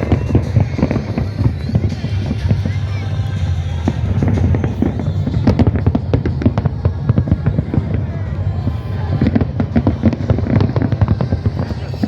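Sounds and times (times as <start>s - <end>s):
fireworks bursting and crackling: 0.0s - 12.0s
low rumble: 0.0s - 12.0s.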